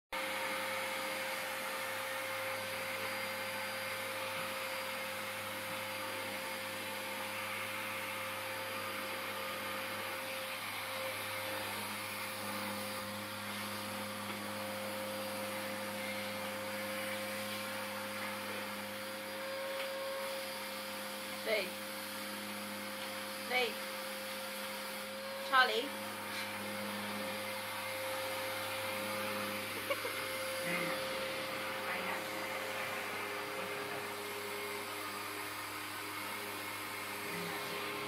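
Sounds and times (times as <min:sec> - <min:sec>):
vacuum cleaner motor whine: 0:00.2 - 0:38.0.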